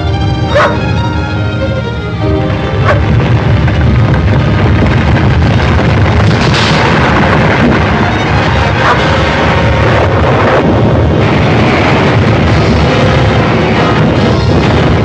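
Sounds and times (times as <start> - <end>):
film music: 0.0 - 15.0
heavy rumble: 0.0 - 15.0.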